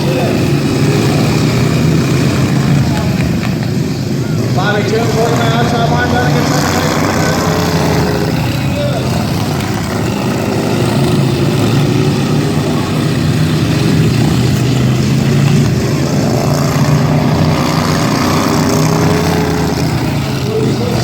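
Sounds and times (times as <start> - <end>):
racing lawn mower engines: 0.0 - 21.0.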